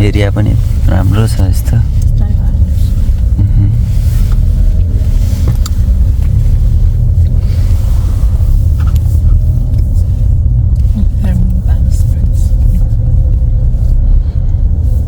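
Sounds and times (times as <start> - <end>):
car driving on road: 0.0 - 15.0.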